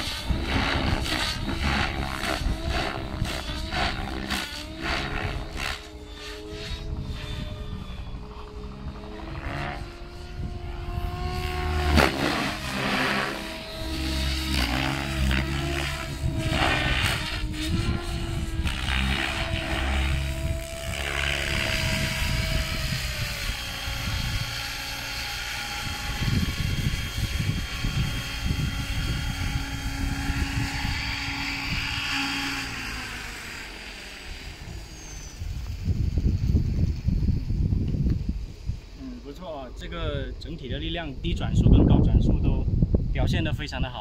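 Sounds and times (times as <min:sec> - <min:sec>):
electric motor whine: 0:00.0 - 0:43.2
helicopter rotor blades whooshing: 0:00.0 - 0:44.0.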